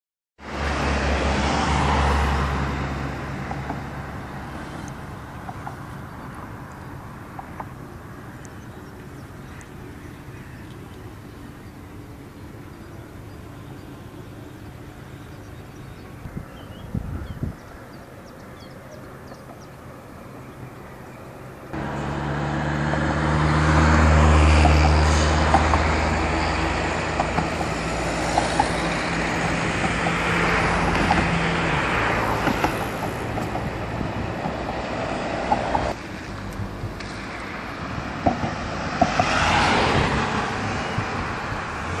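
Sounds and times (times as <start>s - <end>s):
vehicles passing on a bridge: 0.4s - 42.0s.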